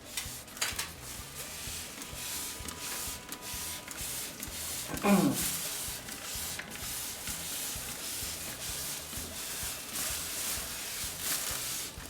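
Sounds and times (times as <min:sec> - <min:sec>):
liquid spray hissing: 0:00.0 - 0:12.0.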